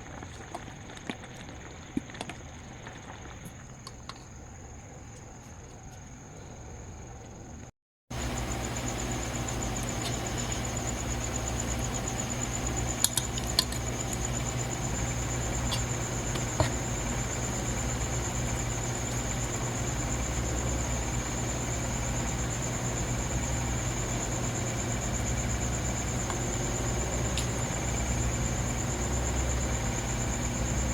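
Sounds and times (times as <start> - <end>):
high pulsing whine: 0.0 - 30.9
steady low hum: 0.0 - 30.9.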